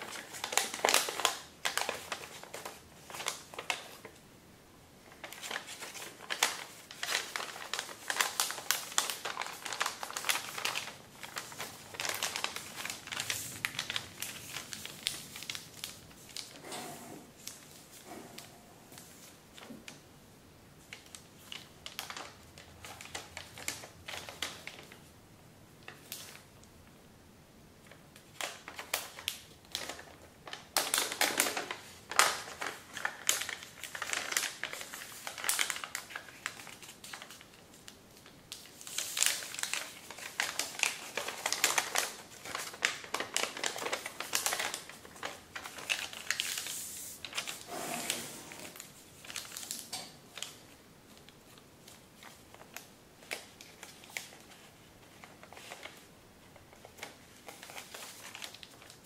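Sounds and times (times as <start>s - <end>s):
paper crinkling while folded: 0.0s - 4.2s, 5.0s - 20.0s, 20.8s - 25.1s, 25.8s - 26.7s, 27.8s - 59.0s.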